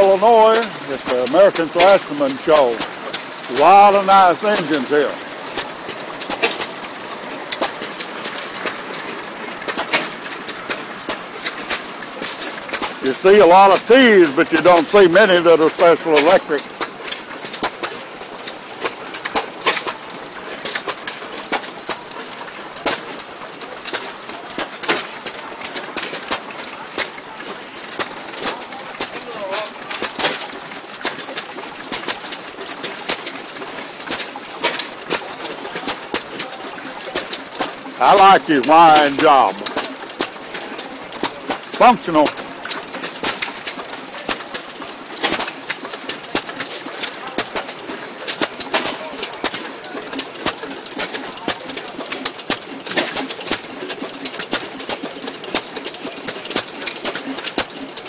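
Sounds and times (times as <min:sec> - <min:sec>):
engine exhaust pops: 0:00.0 - 0:15.0, 0:15.6 - 0:38.0, 0:39.0 - 0:58.0.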